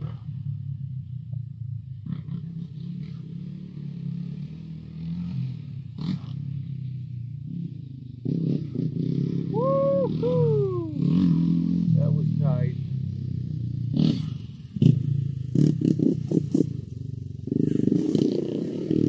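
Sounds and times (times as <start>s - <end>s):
quad bike engine running: 0.0s - 19.0s.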